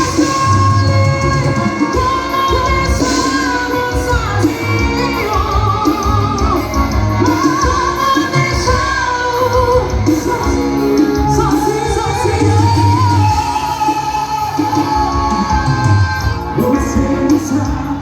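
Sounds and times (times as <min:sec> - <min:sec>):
amplified band music: 0:00.0 - 0:18.0
woman singing: 0:00.0 - 0:18.0.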